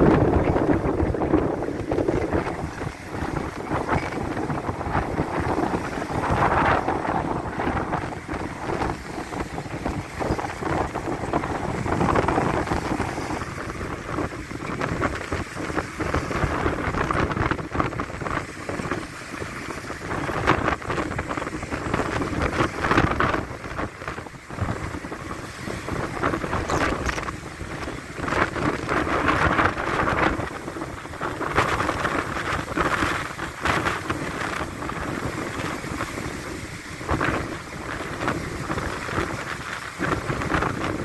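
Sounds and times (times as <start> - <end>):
wind gusting on microphone: 0.0 - 41.0.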